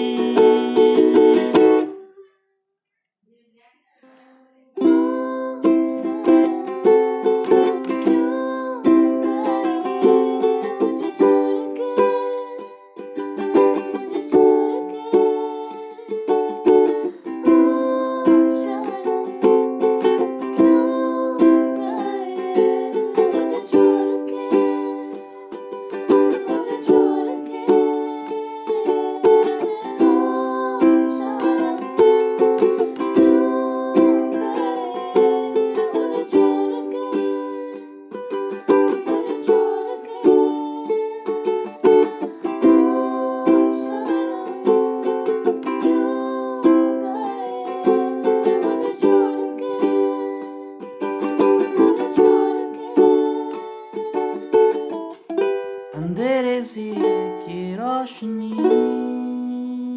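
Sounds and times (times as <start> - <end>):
ukulele strumming chords: 0.0 - 2.0, 4.8 - 59.9
woman singing: 0.0 - 2.4, 3.4 - 55.3, 55.9 - 59.9.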